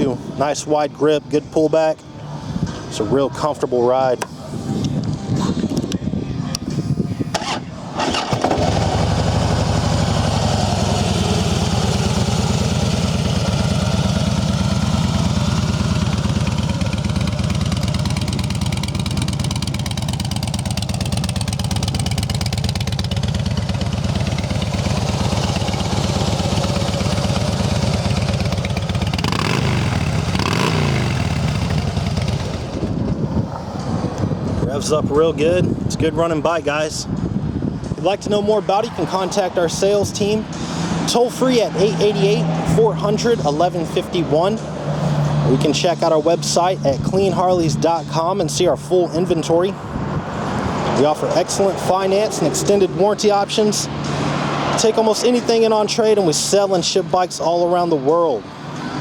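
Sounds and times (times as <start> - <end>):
motorcycle engine idling and revving: 7.3 - 59.0.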